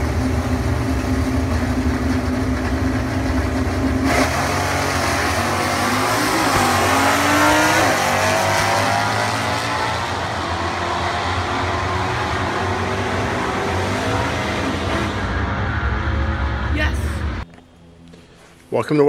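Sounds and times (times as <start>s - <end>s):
car engine accelerating: 0.0s - 17.4s.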